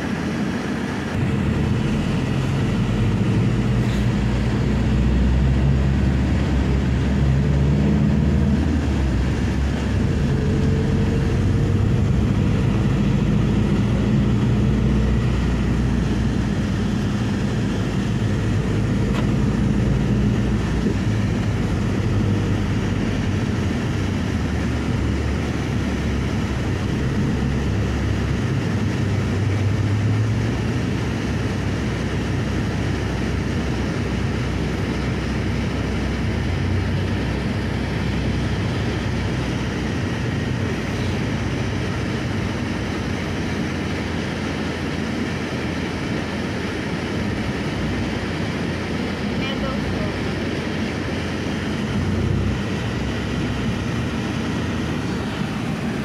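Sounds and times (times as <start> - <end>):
van engine hum: 0.0 - 56.0.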